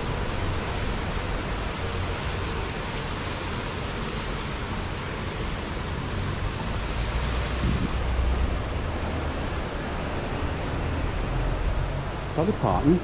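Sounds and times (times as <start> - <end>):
low traffic rumble: 0.0 - 13.0
traffic noise: 0.0 - 13.0.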